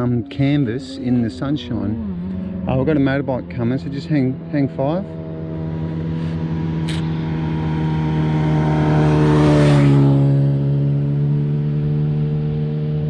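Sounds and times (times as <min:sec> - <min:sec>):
motorbike passing by: 0:00.0 - 0:13.0.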